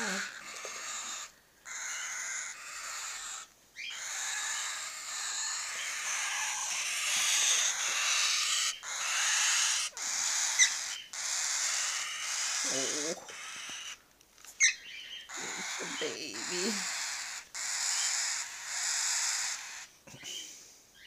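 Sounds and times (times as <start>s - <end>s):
baby cockatiels hissing calls: 0.0s - 14.0s, 14.6s - 21.0s.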